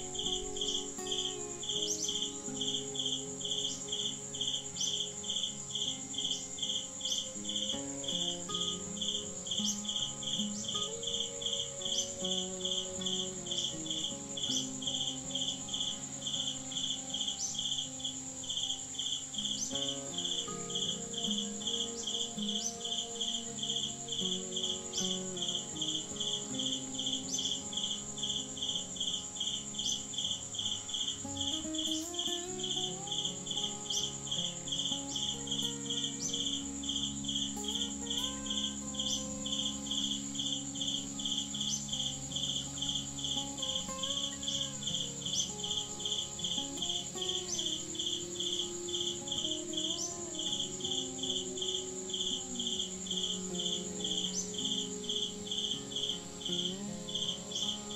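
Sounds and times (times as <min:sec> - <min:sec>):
high insect whine: 0:00.0 - 0:57.9
insects pulsing chirp: 0:00.0 - 0:57.9.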